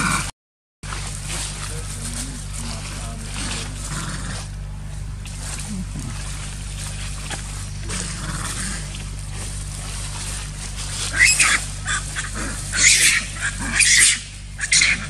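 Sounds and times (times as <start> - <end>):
steady low hum: 0.0 - 15.0
monkeys screaming and squealing: 1.2 - 15.0.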